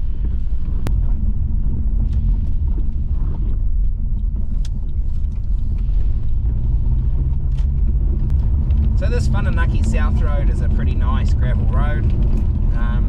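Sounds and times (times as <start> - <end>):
car driving on wet gravel: 0.0 - 13.0.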